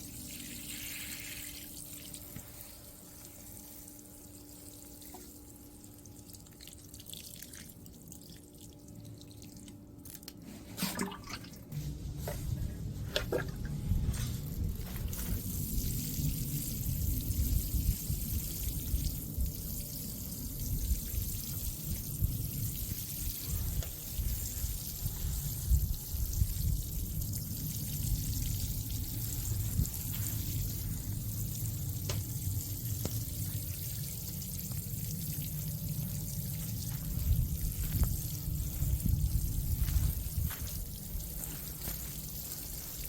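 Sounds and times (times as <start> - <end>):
water trickling onto soil: 0.0 - 43.0.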